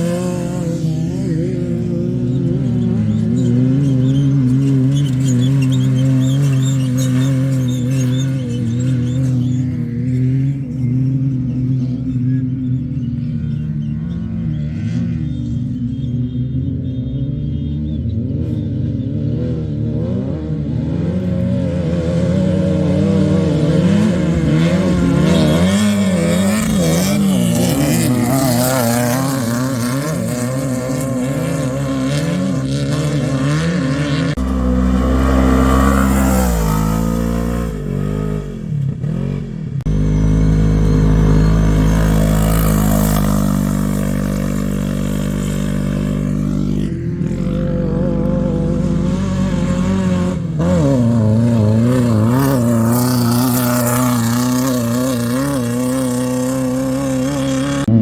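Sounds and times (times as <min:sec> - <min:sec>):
race vehicle engines revving: 0:00.0 - 0:58.0.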